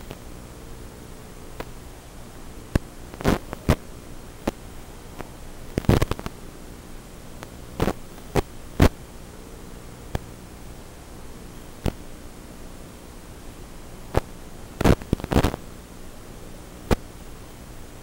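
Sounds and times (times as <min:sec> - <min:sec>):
electrical hum: 0:00.0 - 0:18.0
static crackles: 0:00.0 - 0:18.0.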